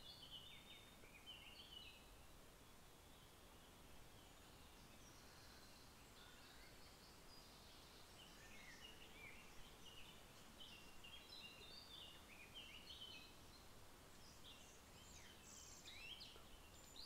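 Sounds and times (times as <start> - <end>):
faint birdsong: 0.0 - 17.0
soft background hiss: 0.0 - 17.0.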